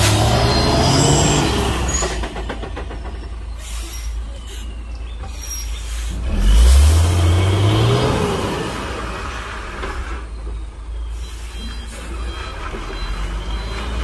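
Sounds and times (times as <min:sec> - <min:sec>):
truck diesel engine labouring: 0:00.0 - 0:14.0.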